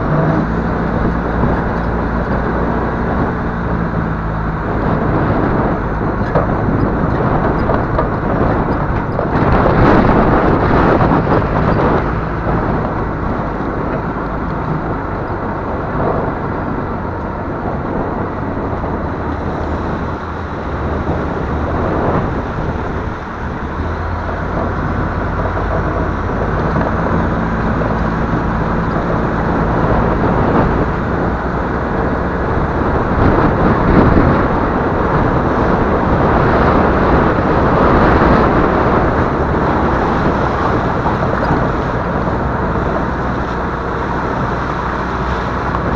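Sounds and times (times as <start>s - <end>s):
truck diesel engine running: 0.0s - 45.9s
truck driving through mud and water: 0.0s - 45.9s.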